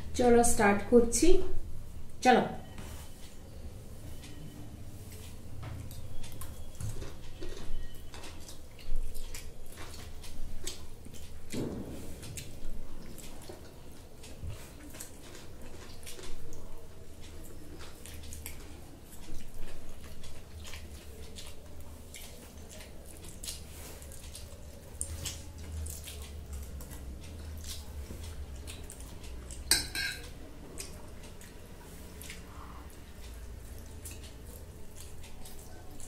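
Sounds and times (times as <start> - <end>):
slurping and chewing noodles: 4.1 - 11.5, 12.1 - 36.0.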